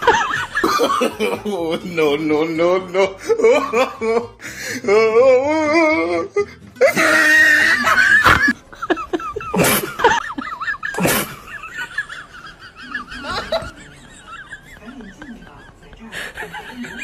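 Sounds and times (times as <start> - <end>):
laughter: 0.0 - 4.4, 6.8 - 17.0.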